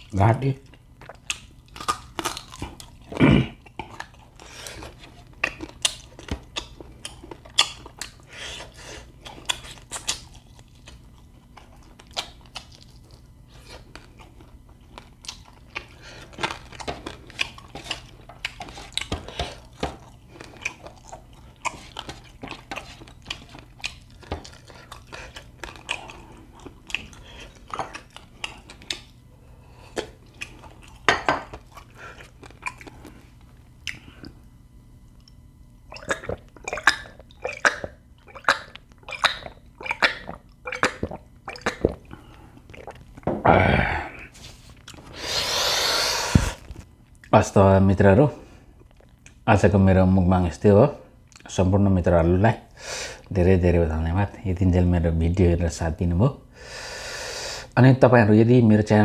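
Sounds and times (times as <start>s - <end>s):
person chewing meat: 0.0s - 47.4s, 48.7s - 49.4s.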